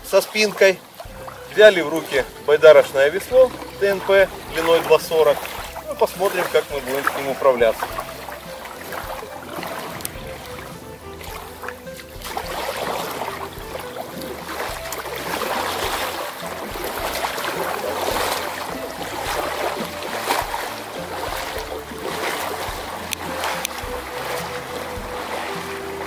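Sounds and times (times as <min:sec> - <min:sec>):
paddle splashing into water: 0:00.0 - 0:26.0
water washing around a boat: 0:00.0 - 0:26.0.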